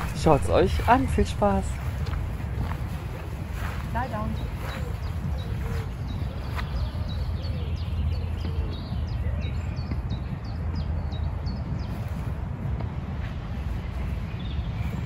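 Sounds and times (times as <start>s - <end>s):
songbird chirping rapidly: 0.0s - 12.7s
wind noise on microphone: 0.0s - 15.0s.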